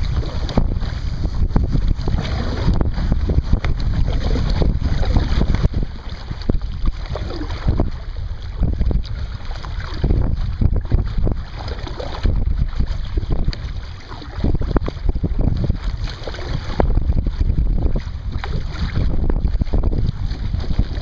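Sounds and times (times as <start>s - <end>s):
water splashing against kayak hull: 0.0s - 21.0s
wind rumbling on microphone: 0.0s - 21.0s.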